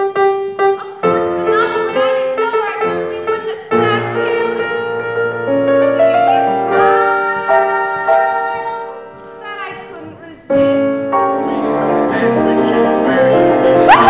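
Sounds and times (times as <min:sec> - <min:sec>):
piano accompaniment: 0:00.0 - 0:14.0
woman singing: 0:00.8 - 0:05.1, 0:05.7 - 0:13.1.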